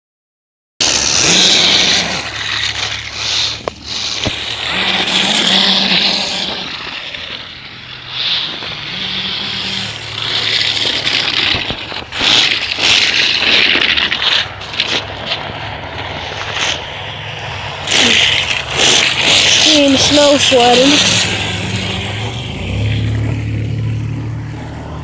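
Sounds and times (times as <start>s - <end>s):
rc truck motor revving: 0.8s - 25.0s
tires churning snow: 0.8s - 25.0s.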